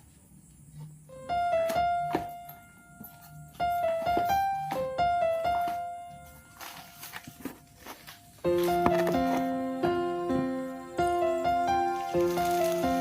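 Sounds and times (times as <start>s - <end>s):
simple single-note melody: 1.1s - 7.6s, 8.4s - 13.0s.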